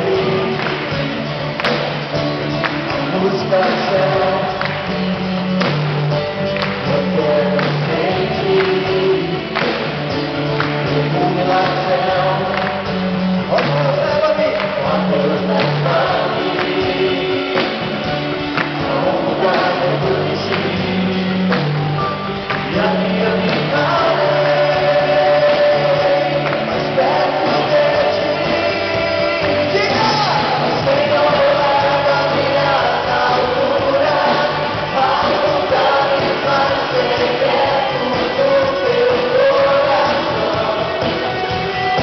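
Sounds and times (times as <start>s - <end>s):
group singing held notes: 0.0s - 1.8s, 6.6s - 13.8s, 14.8s - 42.0s
worship band playing: 0.0s - 42.0s.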